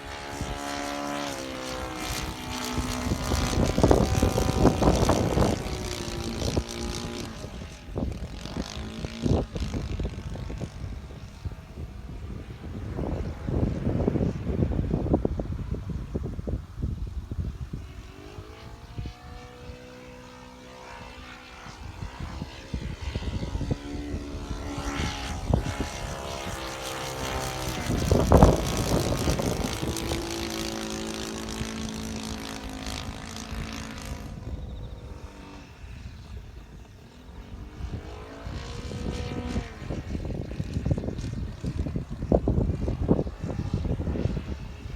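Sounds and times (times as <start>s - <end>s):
model plane engine and propeller: 0.0s - 44.9s
wind buffeting microphone: 0.0s - 44.9s.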